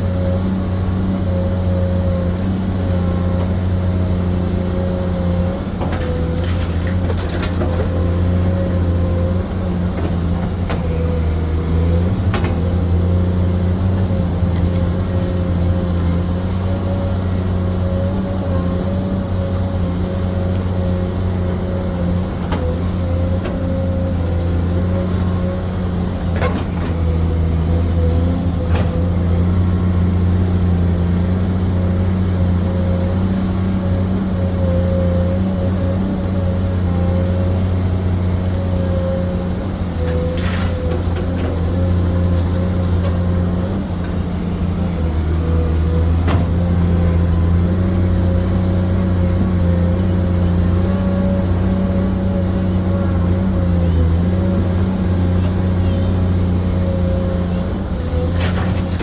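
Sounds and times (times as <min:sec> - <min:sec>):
excavator engine hum: 0:00.0 - 0:59.0.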